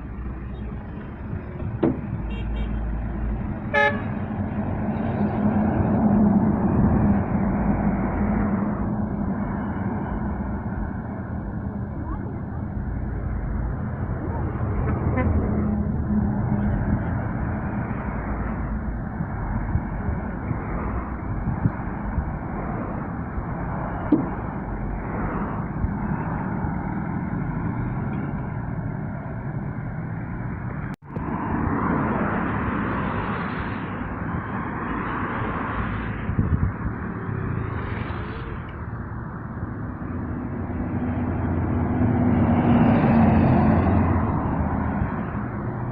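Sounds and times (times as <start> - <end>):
passing vehicles engine and tyre noise: 0.0 - 45.9
truck driving past: 0.0 - 45.9.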